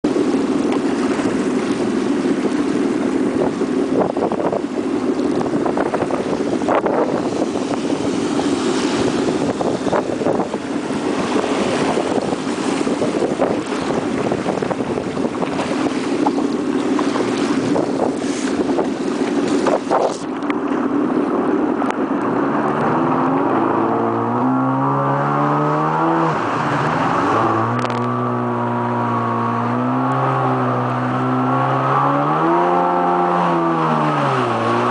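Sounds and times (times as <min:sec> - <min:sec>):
jet ski engine: 0:00.0 - 0:34.9
wind and water noise: 0:00.0 - 0:34.9.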